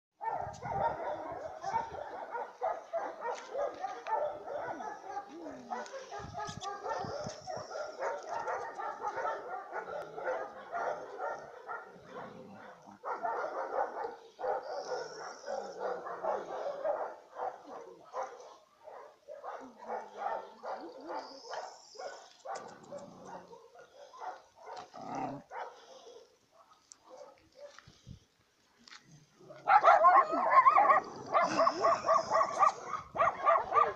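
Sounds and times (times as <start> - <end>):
dogs barking: 0.2 - 27.8, 29.5 - 33.9.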